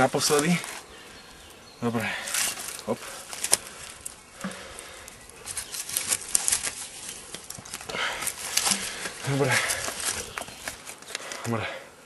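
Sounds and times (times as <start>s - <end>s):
footsteps on dry leaves and twigs: 0.0s - 1.5s, 2.1s - 11.4s.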